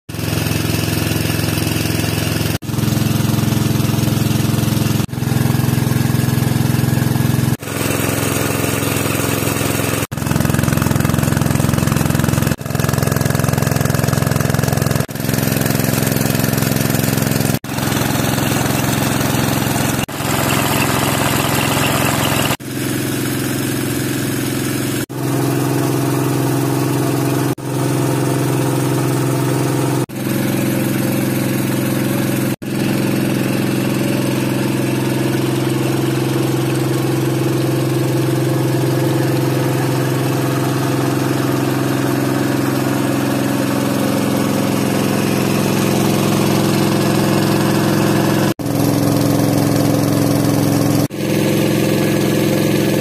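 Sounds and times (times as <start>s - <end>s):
water pump engine running: 0.1s - 53.0s.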